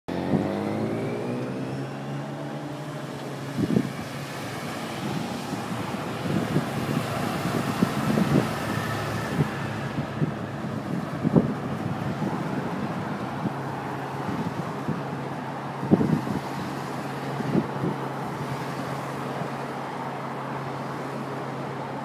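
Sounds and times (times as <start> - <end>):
motorcycle and car engines: 0.1 - 22.0
wind gusts on microphone: 0.1 - 22.0.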